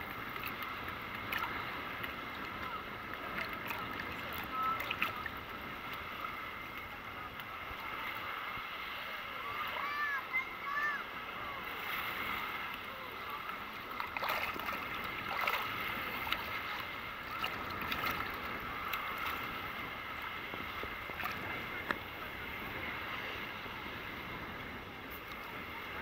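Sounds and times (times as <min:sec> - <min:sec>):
small waves lapping: 0:00.0 - 0:26.0
water splashes: 0:00.0 - 0:26.0.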